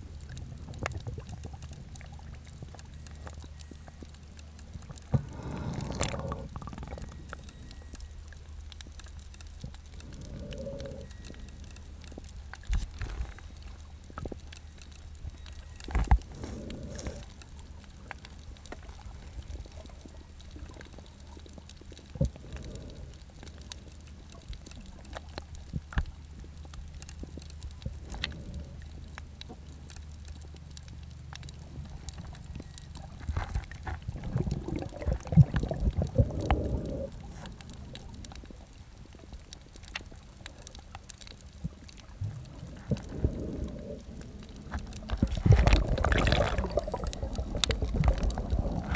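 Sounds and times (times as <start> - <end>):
bubbling swishing water: 0.0 - 14.5, 15.2 - 48.9
muffled underwater rumble: 0.0 - 48.9.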